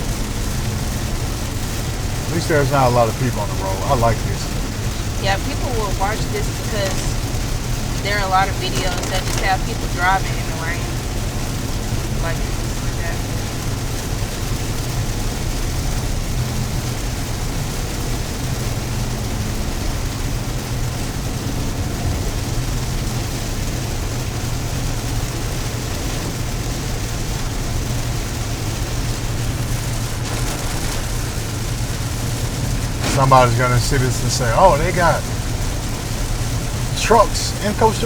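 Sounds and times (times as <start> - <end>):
engine and tyres on wet road: 0.0 - 38.0
rain and spray hissing on car: 0.0 - 38.0.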